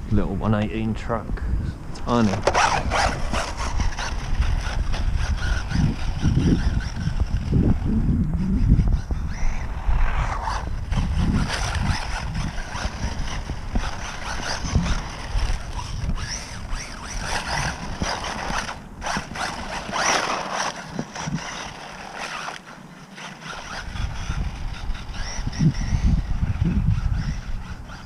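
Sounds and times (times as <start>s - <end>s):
toy truck motor whining: 2.1s - 9.6s, 10.8s - 28.0s.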